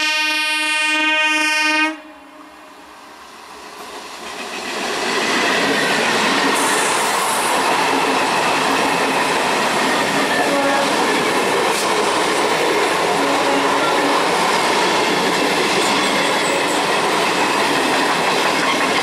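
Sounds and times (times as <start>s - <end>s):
train passing at speed: 0.0s - 19.0s.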